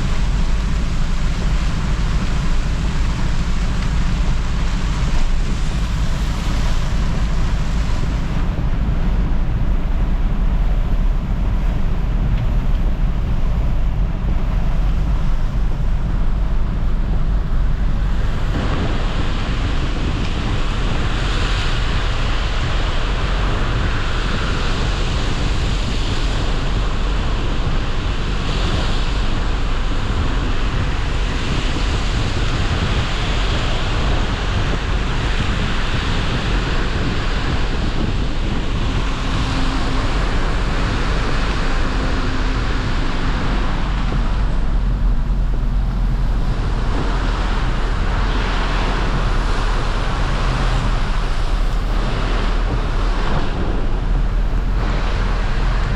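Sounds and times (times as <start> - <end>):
low rumble: 0.0 - 55.9
vehicle road noise: 0.0 - 55.9
wind buffeting microphone: 0.0 - 55.9.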